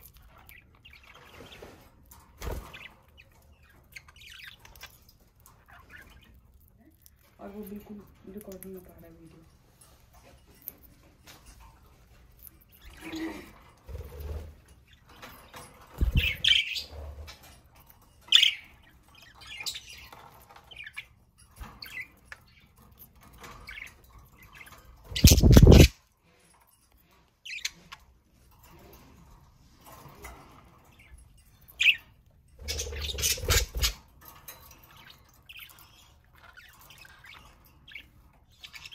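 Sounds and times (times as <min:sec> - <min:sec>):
budgies chirping: 0:00.0 - 0:25.9, 0:27.4 - 0:38.9.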